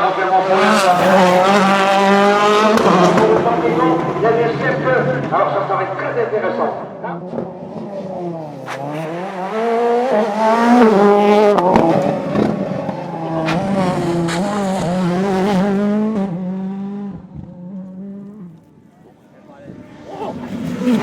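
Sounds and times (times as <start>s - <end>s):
rally car engine revving: 0.0s - 18.8s, 19.6s - 21.0s.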